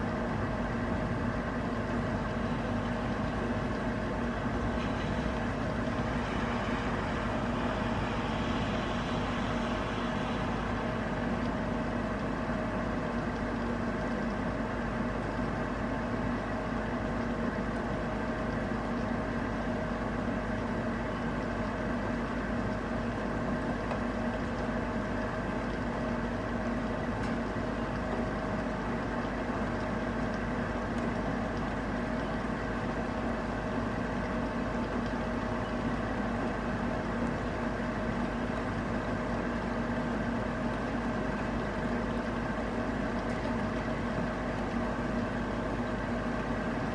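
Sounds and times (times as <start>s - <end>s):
low mechanical hum: 0.0s - 46.9s
steady rain: 0.0s - 46.9s.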